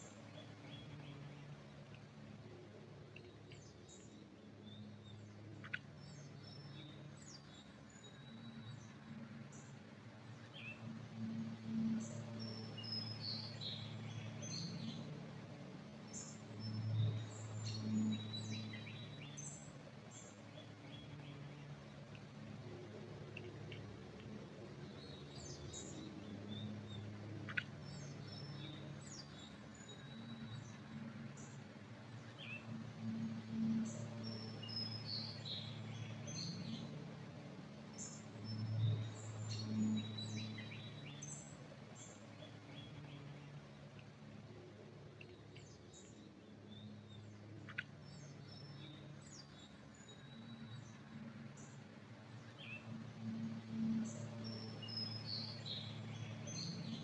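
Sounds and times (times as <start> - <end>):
low steady hum: 0.0 - 57.0
small birds chirping: 3.0 - 57.0.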